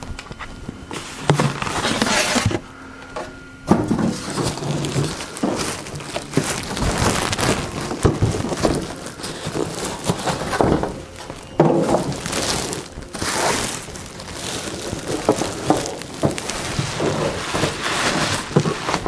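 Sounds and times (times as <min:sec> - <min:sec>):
plastic wrapping crinkling: 0:00.0 - 0:02.6, 0:03.7 - 0:19.0
foam packing creaking: 0:00.0 - 0:19.0.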